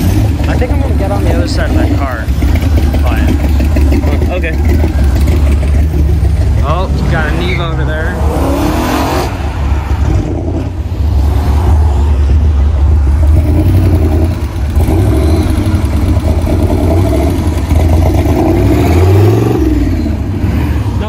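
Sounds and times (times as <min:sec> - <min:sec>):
car engine deep rumble: 0:00.0 - 0:21.0
engine revving: 0:00.0 - 0:21.0.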